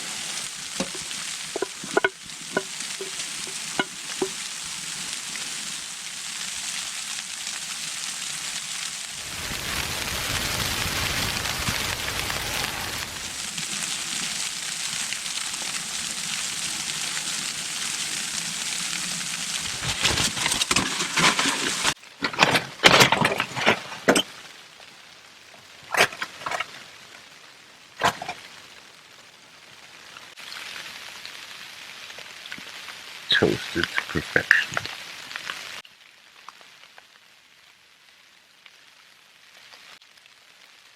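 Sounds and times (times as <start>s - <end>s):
sharp crackles and rustles: 0.0s - 37.8s.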